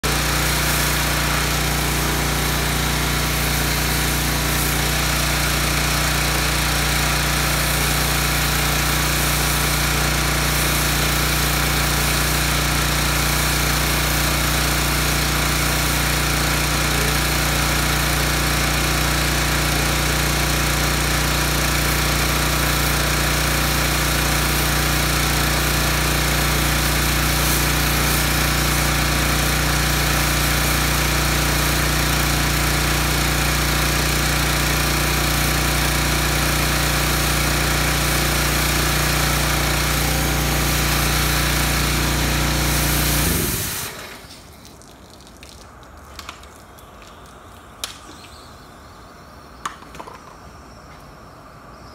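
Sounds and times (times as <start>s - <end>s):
pressure washer motor droning: 0.0s - 50.1s.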